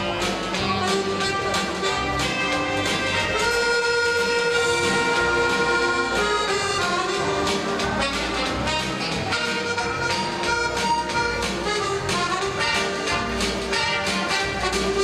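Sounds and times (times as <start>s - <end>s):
live dance band music: 0.0s - 15.0s.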